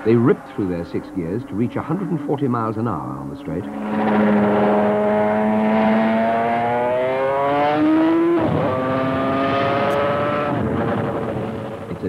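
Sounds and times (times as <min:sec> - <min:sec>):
gear change: 0:00.0 - 0:12.0
motorcycle engine revving: 0:00.0 - 0:12.0.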